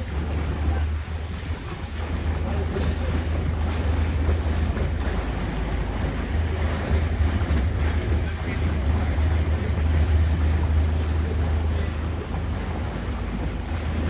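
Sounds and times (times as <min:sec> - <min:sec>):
boat engine drone: 0:00.0 - 0:14.0
water noise: 0:00.0 - 0:14.0
wind buffeting microphone: 0:00.0 - 0:14.0.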